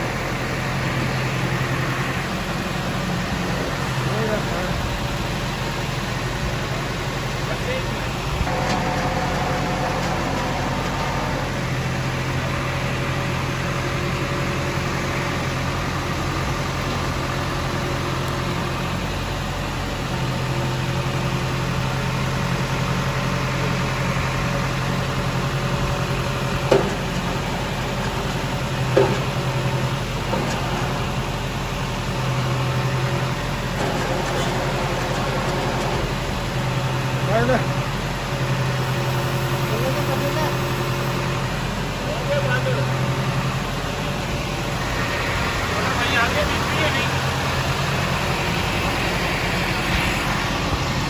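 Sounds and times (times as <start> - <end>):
vehicle engine humming: 0.0 - 51.0.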